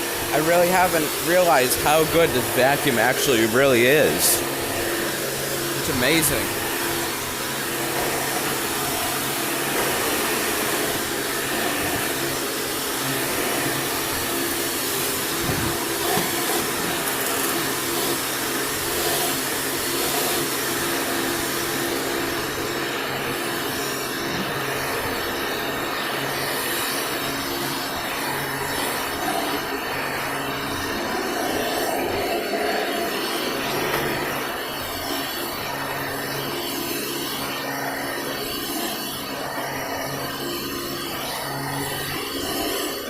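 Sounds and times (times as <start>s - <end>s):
vacuum cleaner running on rug: 0.0s - 43.0s.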